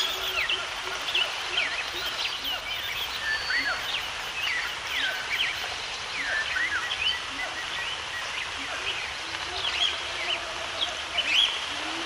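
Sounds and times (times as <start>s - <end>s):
birds chirping: 0.0s - 12.0s
steady hiss: 0.0s - 12.0s.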